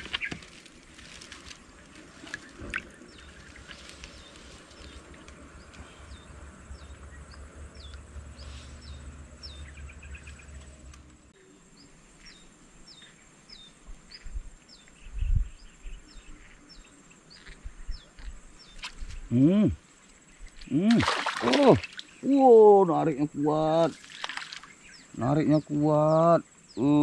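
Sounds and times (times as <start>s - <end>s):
faint insect hum: 0.0s - 27.0s.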